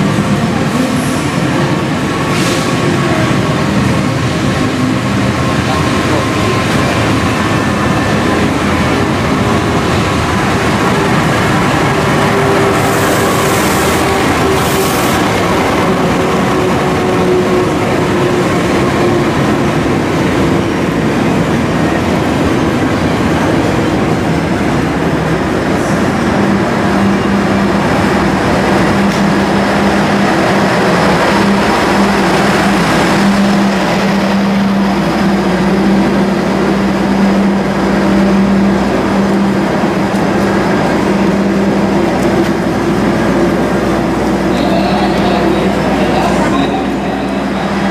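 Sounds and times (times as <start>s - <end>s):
diesel engine humming: 0.0s - 47.9s
train rolling slowly: 0.0s - 47.9s.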